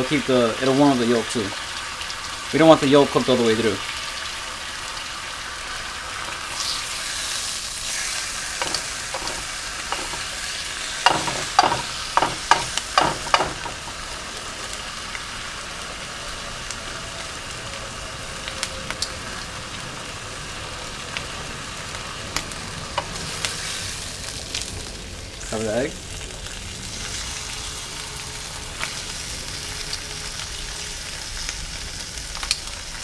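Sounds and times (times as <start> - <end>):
egg sizzling in a frying pan: 0.0 - 33.0.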